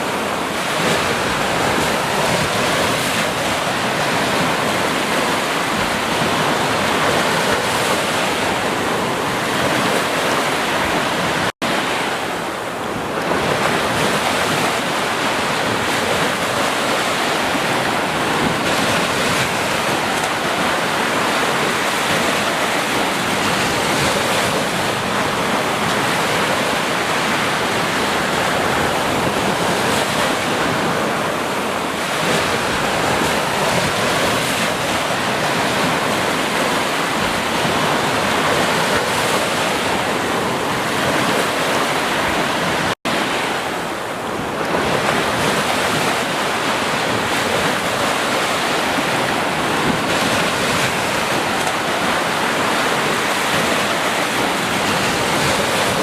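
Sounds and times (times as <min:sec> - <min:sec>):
ocean surf on a beach: 0:00.0 - 0:56.0.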